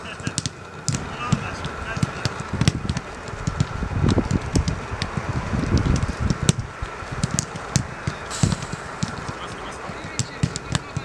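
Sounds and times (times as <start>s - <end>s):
steady low rumble: 0.0s - 9.9s
footballs kicked thuds: 0.0s - 11.0s.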